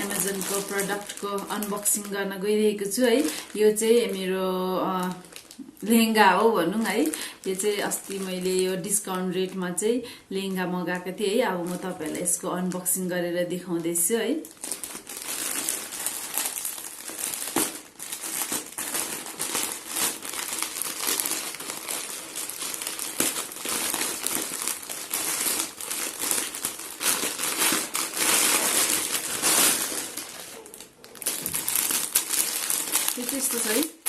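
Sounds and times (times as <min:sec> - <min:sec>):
packaging crinkling and rustling: 0:00.0 - 0:09.6, 0:13.7 - 0:34.0.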